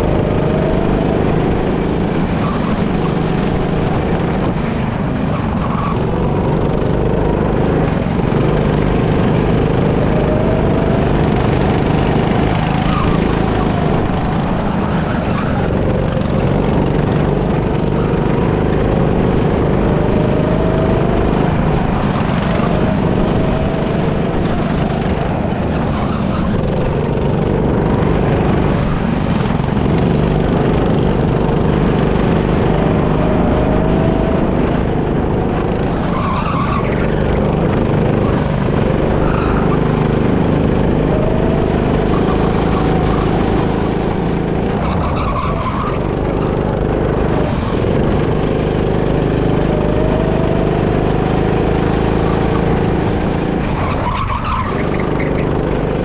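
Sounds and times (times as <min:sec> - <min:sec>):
go-kart motor running: 0:00.0 - 0:56.0.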